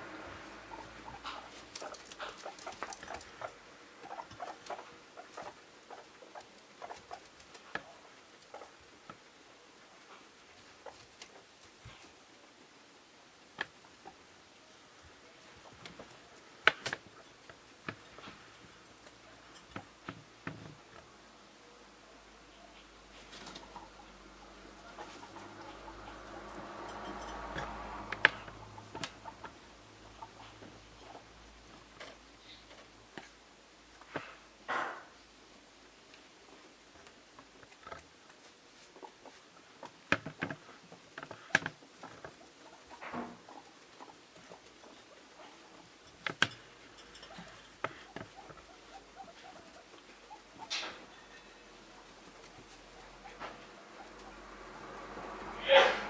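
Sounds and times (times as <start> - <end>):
guinea pigs clicking and tapping: 0.3 - 12.2, 13.5 - 21.1, 22.4 - 35.2, 36.1 - 55.6.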